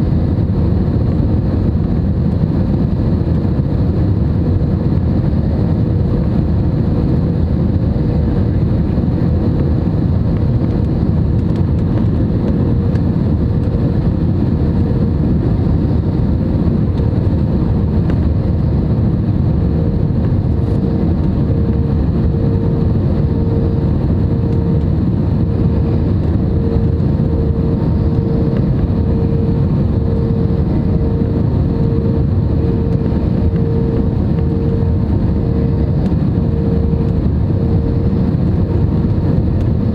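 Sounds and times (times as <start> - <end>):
airliner cabin engine rumble: 0.0 - 39.9
steady hum: 0.0 - 39.9.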